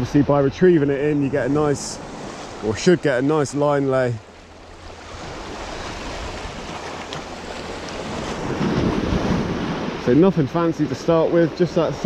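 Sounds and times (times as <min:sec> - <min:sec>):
wind buffeting microphone: 0:00.0 - 0:11.3
sea water washing: 0:00.0 - 0:12.0.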